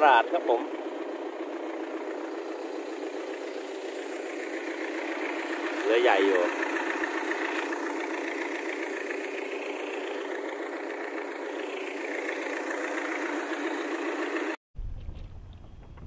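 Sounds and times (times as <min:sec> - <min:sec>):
boat engine running: 0:00.0 - 0:14.6.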